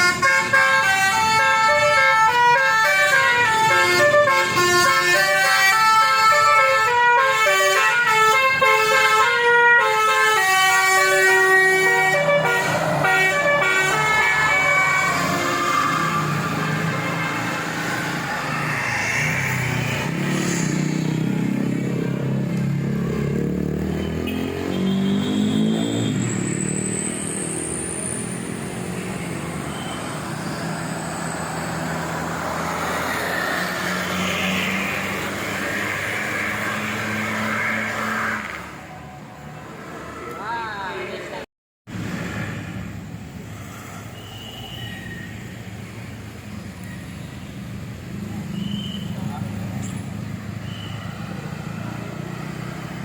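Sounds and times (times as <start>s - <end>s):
vehicle engines and road noise: 0.0s - 53.0s.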